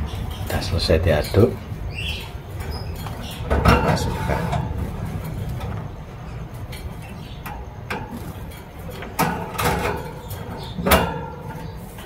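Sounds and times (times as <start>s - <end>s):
wire cage rattling: 0.0s - 12.0s.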